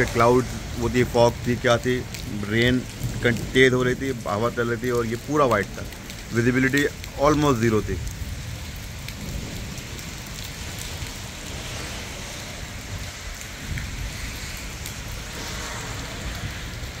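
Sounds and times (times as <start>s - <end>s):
rain on wet pavement: 0.0s - 17.0s.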